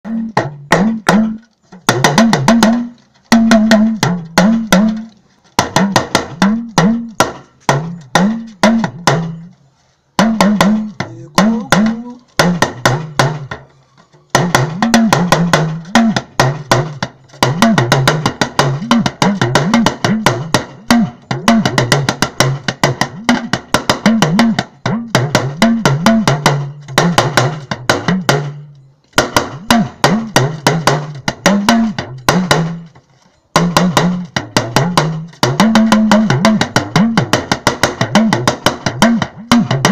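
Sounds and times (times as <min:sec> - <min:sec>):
talking drum played with pitch bends: 0:00.0 - 0:13.7, 0:14.3 - 0:39.9.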